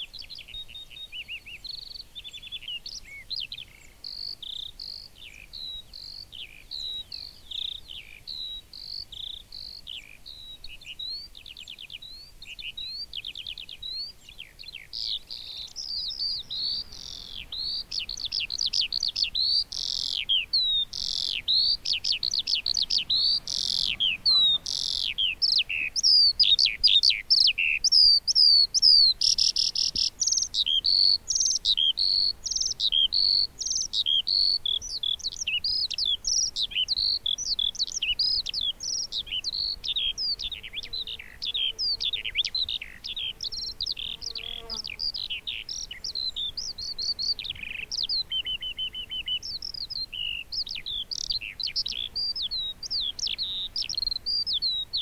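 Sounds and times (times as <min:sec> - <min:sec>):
skylark singing: 0:00.0 - 0:55.0.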